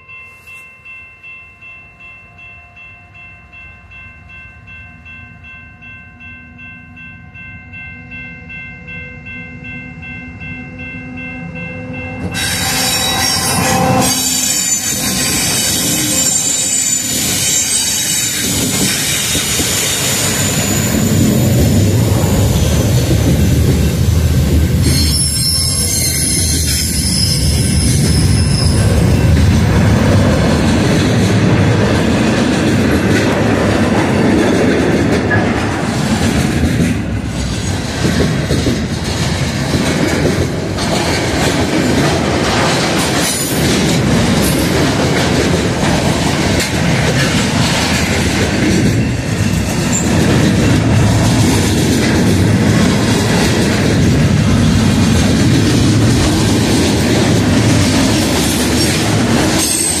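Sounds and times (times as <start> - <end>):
freight train wheels rumbling: 7.3 - 60.0.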